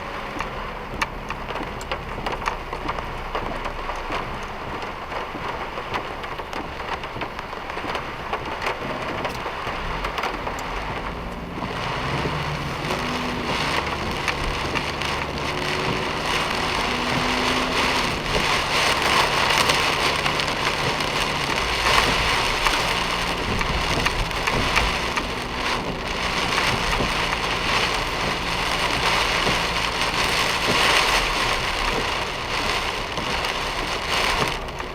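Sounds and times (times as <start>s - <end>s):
heavy rain hitting a car: 0.0s - 34.9s.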